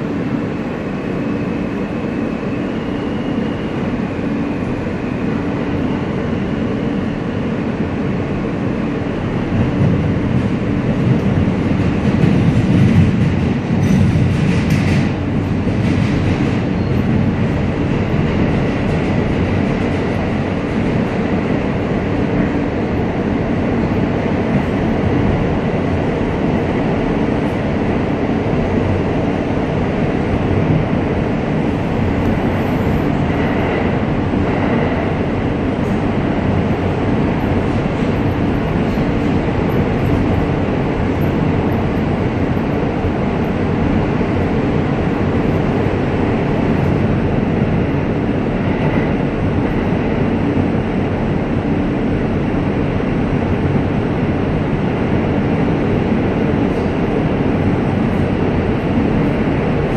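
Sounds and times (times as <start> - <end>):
subway wheels on rail: 0.0 - 59.9.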